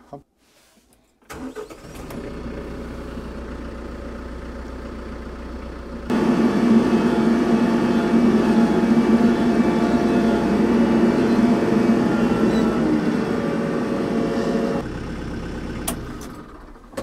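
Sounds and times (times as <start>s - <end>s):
tractor diesel engine: 1.3s - 17.0s.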